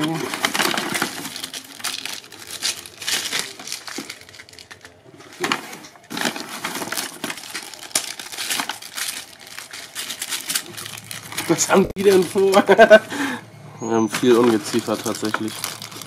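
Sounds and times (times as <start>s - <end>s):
packing paper rustling: 0.0s - 13.0s, 14.1s - 16.0s.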